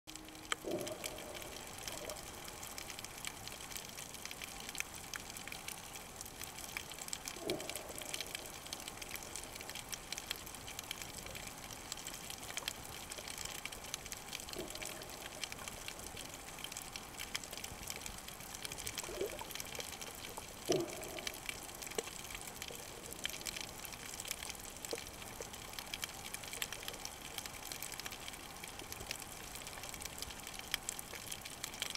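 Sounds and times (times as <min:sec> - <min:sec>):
low underwater gurgles: 0:00.1 - 0:30.2
fine crackling of tiny clicks: 0:00.1 - 0:31.9.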